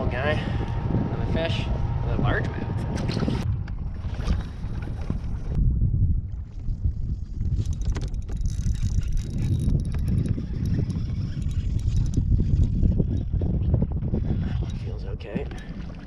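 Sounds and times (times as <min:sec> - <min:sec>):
wind rumbling on microphone: 0:00.0 - 0:16.0
water lapping at a kayak: 0:03.1 - 0:16.0.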